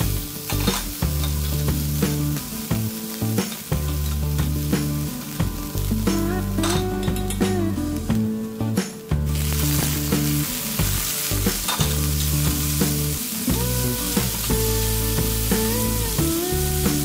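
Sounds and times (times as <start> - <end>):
mushrooms sizzling in hot oil: 0.0 - 17.0.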